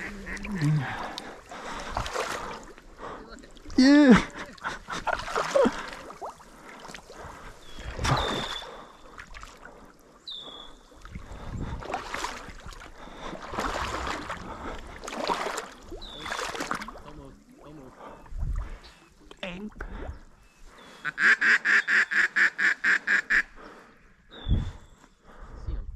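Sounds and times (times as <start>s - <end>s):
water sloshing around wading legs: 0.0s - 21.0s.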